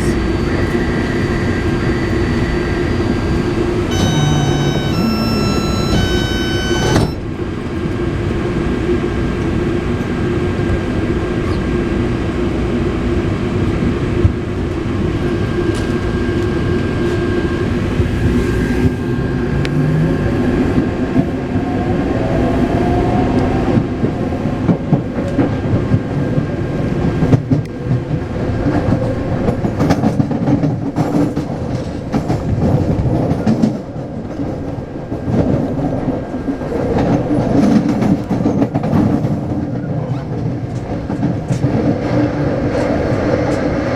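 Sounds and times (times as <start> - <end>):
electric train rumble: 0.0 - 43.9.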